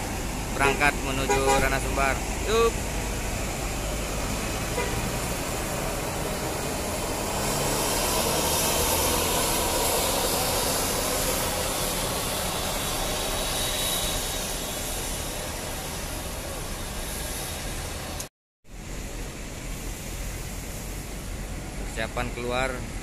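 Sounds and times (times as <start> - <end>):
bus diesel engine driving off: 0.0 - 23.0
road noise: 0.0 - 23.0.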